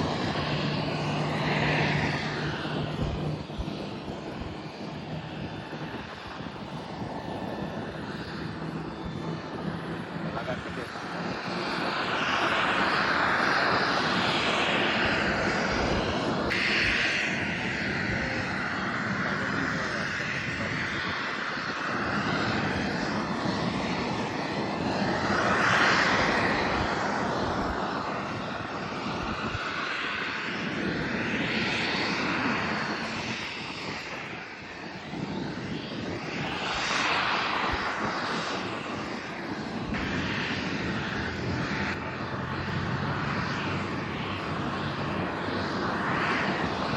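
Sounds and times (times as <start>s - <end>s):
airliner engines roaring: 0.0s - 46.9s.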